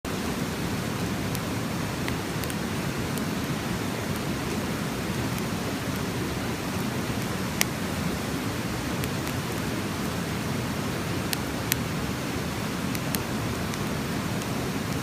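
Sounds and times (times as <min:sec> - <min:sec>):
campfire crackling: 0:00.1 - 0:15.0
river rushing: 0:00.1 - 0:15.0.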